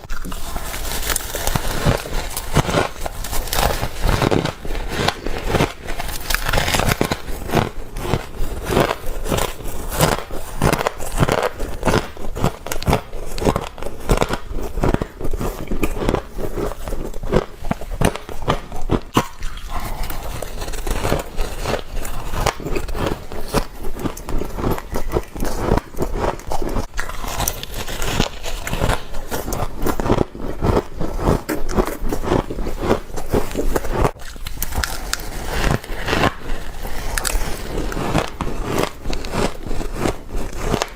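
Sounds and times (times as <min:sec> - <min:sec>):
frost crunching in the mouth: 0:00.0 - 0:40.9.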